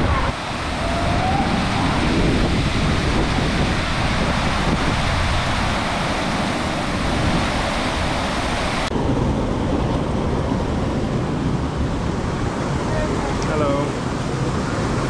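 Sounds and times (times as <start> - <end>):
water rushing: 0.0 - 15.0
wind on microphone: 0.0 - 15.0.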